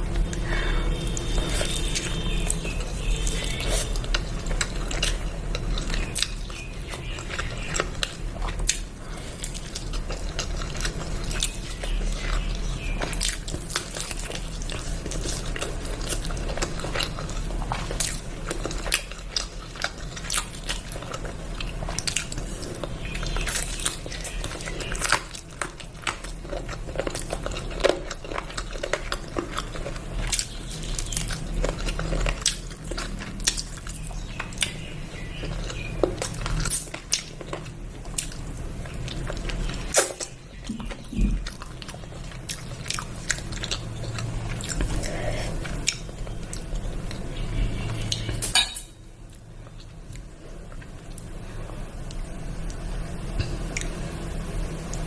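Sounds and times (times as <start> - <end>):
person chewing food: 0.0 - 54.1
low hum: 0.0 - 55.0.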